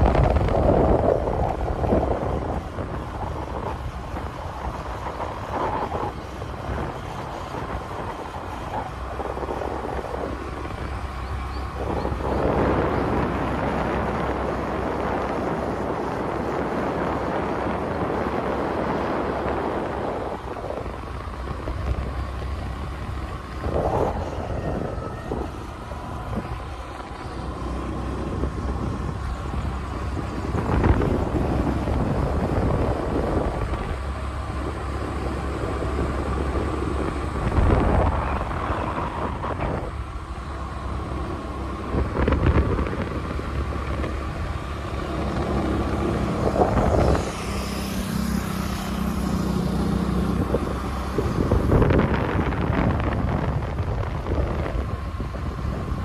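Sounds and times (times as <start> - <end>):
small scooter engine running: 0.0 - 56.0
wind buffeting microphone: 0.0 - 56.0.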